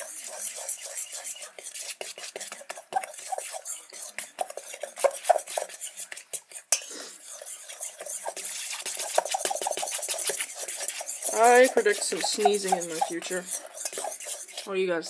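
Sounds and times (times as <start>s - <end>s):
crumbs rustling against metal pot: 0.0s - 14.8s.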